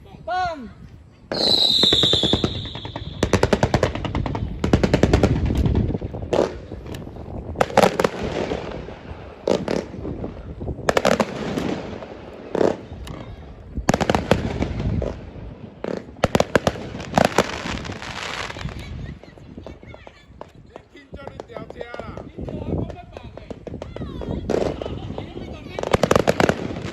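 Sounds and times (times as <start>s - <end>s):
fireworks bangs and crackles: 1.3s - 26.9s.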